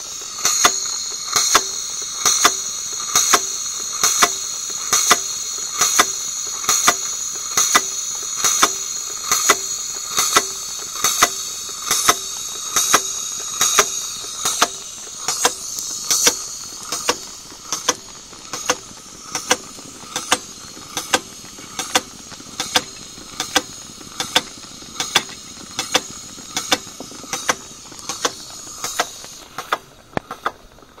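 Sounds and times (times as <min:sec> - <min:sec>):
sharp regular clicks: 0:00.0 - 0:31.0
steam hissing: 0:00.0 - 0:31.0.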